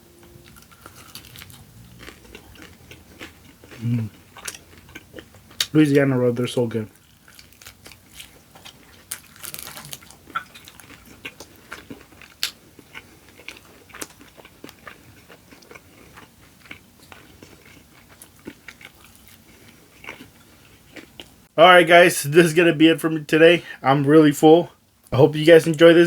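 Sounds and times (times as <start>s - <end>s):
chewing crispy chicken: 0.4s - 21.4s.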